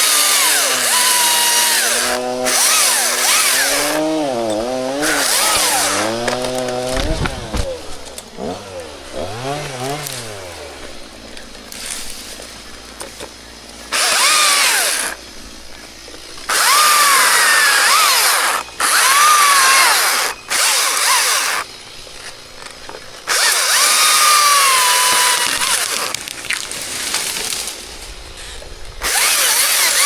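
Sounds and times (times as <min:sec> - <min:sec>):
chainsaw revving: 0:00.0 - 0:12.9, 0:13.6 - 0:15.4, 0:16.1 - 0:21.7, 0:23.2 - 0:26.2, 0:29.0 - 0:30.0.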